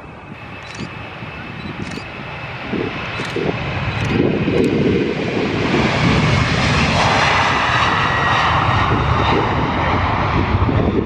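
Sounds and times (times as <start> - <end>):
high engine whine: 0.0 - 11.0
jet engines at high power: 0.0 - 11.0.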